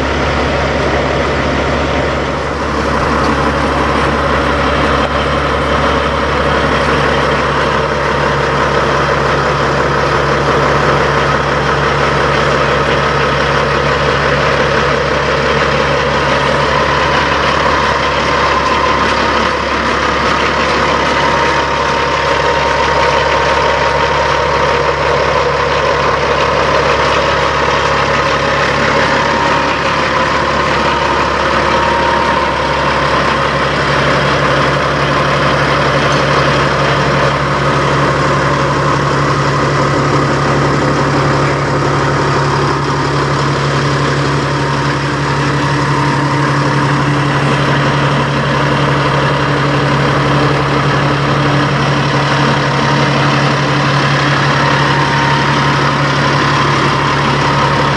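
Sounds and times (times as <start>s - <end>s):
truck diesel engine idling: 0.0s - 57.9s.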